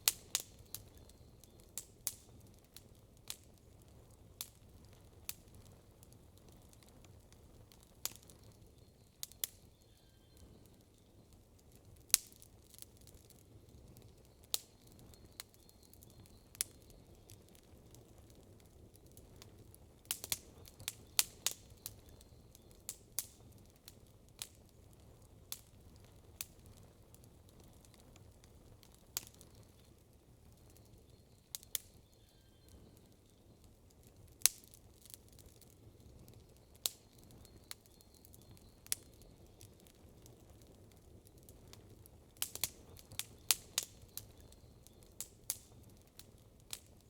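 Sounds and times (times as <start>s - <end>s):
campfire crackling and popping: 0.0s - 47.0s
faint low background hiss: 0.0s - 47.0s.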